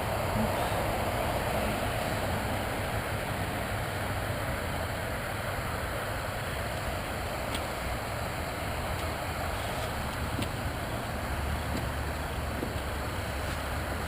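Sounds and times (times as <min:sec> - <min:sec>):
distant dirt bike engines: 0:00.0 - 0:14.0.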